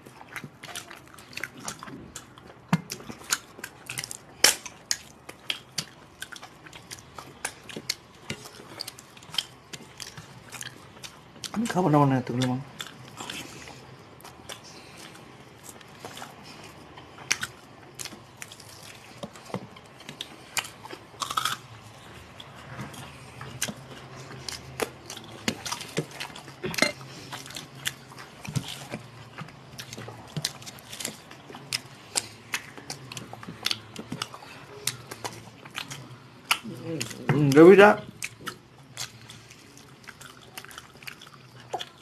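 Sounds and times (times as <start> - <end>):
eating clicks and smacks: 0.0 - 21.7, 22.4 - 42.0
people chewing: 0.0 - 42.0.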